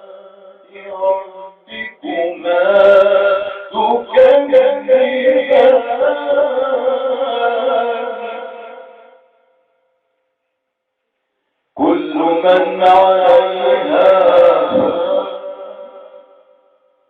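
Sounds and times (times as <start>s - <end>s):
man chanting melodically: 0.0s - 9.2s, 11.8s - 16.6s.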